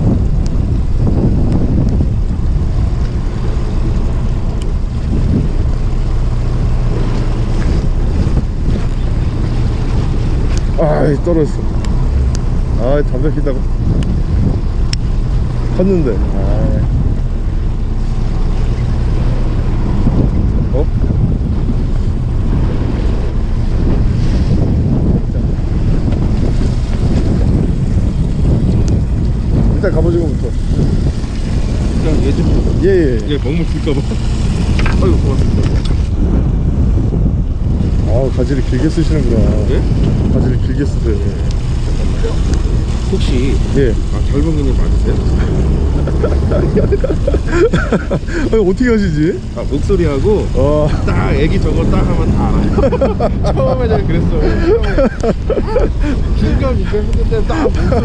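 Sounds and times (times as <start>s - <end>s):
waves washing against hull: 0.0s - 58.0s
wind buffeting microphone: 0.0s - 58.0s.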